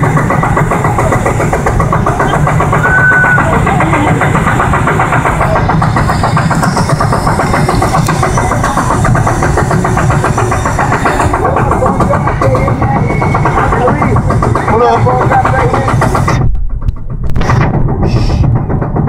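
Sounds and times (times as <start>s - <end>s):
fast even track clatter: 0.0s - 19.0s
roller coaster rumbling on track: 0.0s - 19.0s.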